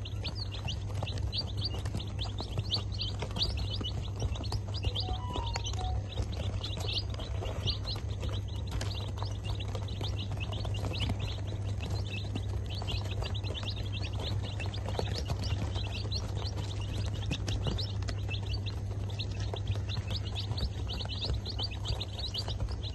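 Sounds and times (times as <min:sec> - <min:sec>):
chicks peeping: 0:00.0 - 0:22.9.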